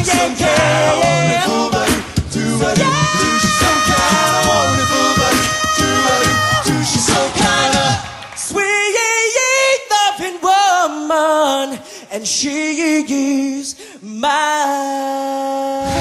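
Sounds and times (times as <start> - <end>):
vocal percussion: 0.0 - 16.0
man singing with vibrato: 2.4 - 16.0.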